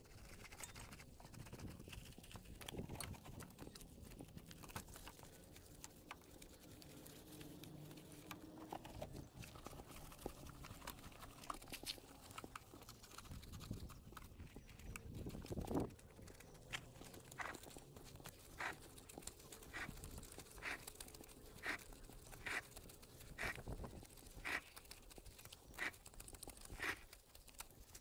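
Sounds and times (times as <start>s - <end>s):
small clicks and crackles: 0.0s - 28.0s.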